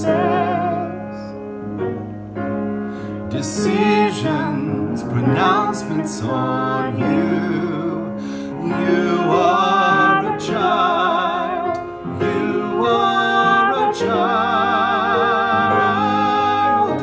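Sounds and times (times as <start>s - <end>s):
woman and man singing: 0.0s - 1.3s, 3.3s - 17.0s
piano accompaniment: 0.0s - 17.0s.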